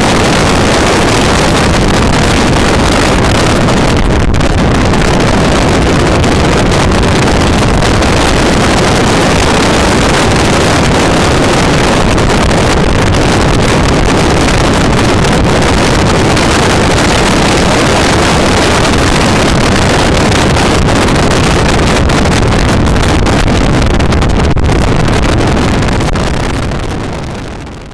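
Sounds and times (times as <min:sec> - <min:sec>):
car engine and road noise: 0:00.0 - 0:27.9
wind buffeting microphone: 0:00.0 - 0:27.9.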